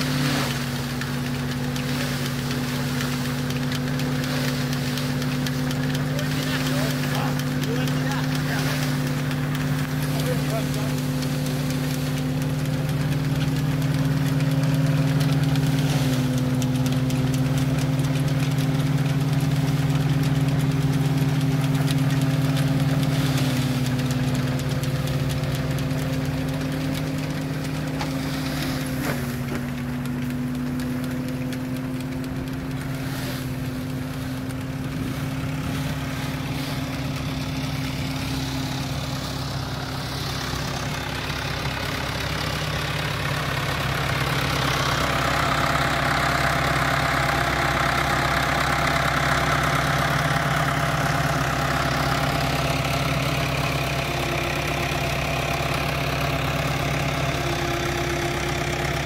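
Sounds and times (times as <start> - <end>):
threshing machine humming: 0.0 - 59.0.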